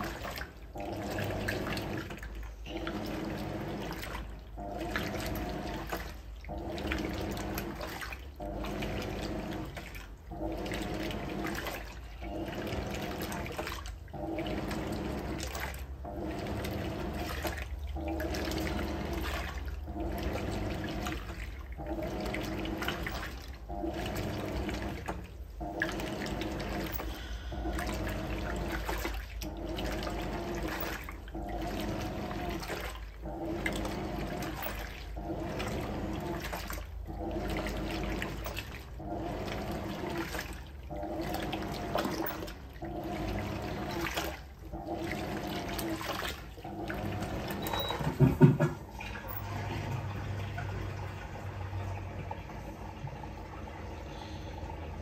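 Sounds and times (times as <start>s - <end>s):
drain pump rumble: 0.0s - 55.0s
washing machine motor hum: 0.0s - 55.0s
water swishing: 0.0s - 55.0s.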